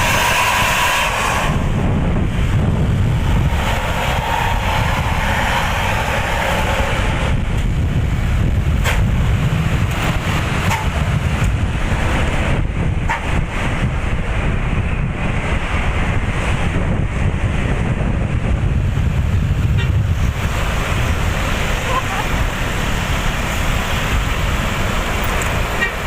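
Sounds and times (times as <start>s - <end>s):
bus engine running: 0.0s - 26.0s
wind noise on microphone: 0.0s - 26.0s.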